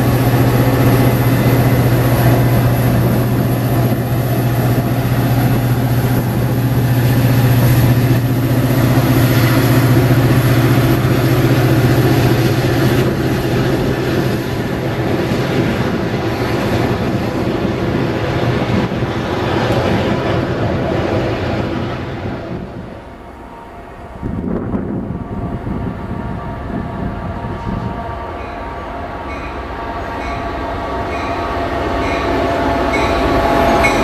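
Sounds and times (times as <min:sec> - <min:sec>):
diesel locomotive engine drone: 0:00.0 - 0:34.0
train rumbling on rails: 0:00.0 - 0:34.0.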